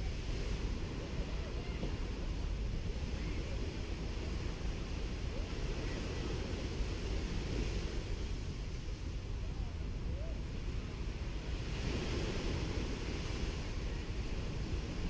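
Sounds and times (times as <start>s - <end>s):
sea waves washing onto sand: 0.0s - 15.0s
wind rumble on microphone: 0.0s - 15.0s.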